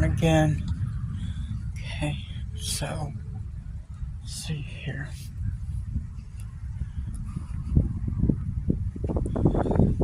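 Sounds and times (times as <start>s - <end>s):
gusty wind buffeting microphone: 0.0s - 10.0s.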